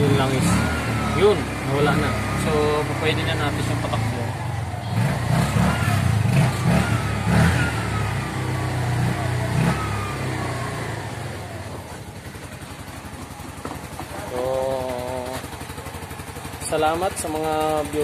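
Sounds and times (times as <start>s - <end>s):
auto-rickshaw engine revving: 0.0s - 18.0s.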